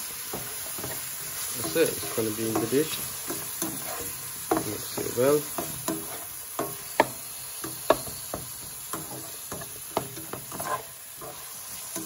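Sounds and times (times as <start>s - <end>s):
faint frying sizzle: 0.0s - 12.0s
spatula scraping a metal pan: 0.3s - 12.0s.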